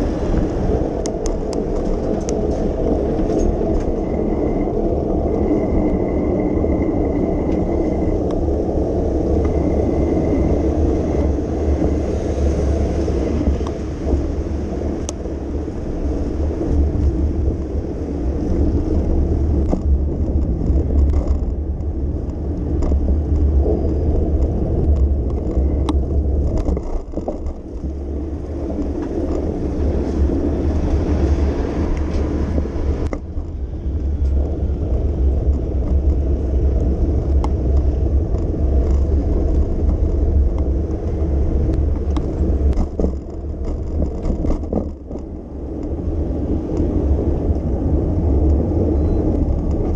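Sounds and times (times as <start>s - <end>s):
bicycle tyre and road noise: 0.0s - 49.9s
wind on microphone: 0.0s - 49.9s.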